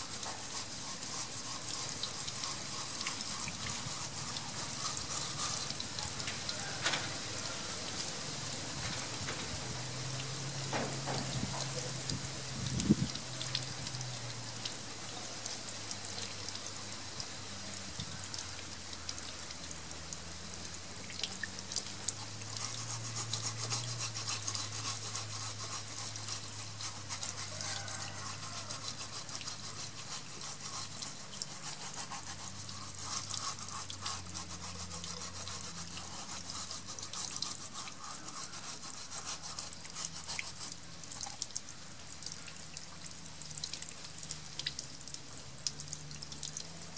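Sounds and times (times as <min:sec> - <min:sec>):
brush scrubbing a shell: 0:00.0 - 0:19.5, 0:20.7 - 0:46.9
water splashing on tiles: 0:00.0 - 0:46.9.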